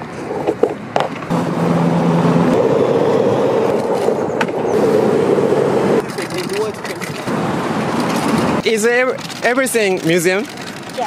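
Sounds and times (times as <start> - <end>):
skateboard wheels rolling on pavement: 0.0 - 11.0.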